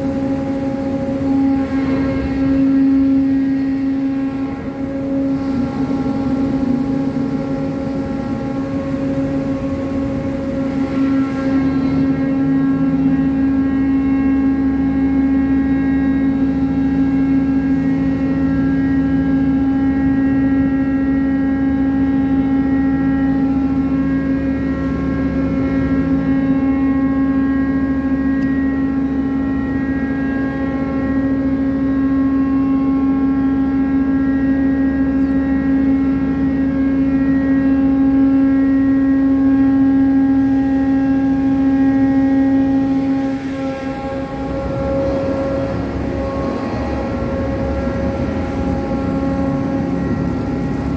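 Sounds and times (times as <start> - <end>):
crane machinery droning: 0.0 - 50.9.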